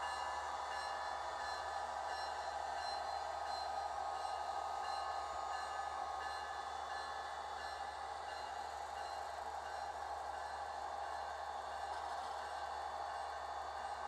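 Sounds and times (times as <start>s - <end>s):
model train locomotive hum: 0.0s - 14.0s.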